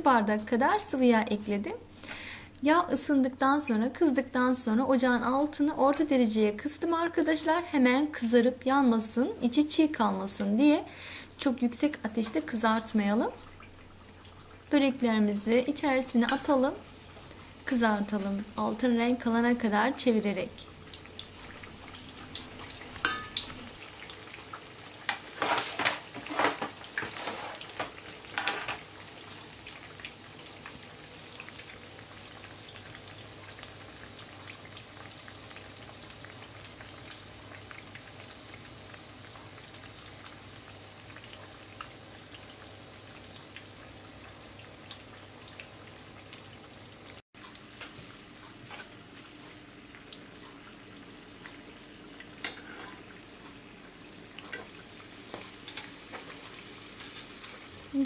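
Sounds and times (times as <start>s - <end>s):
hot oil crackling: 1.8s - 58.0s.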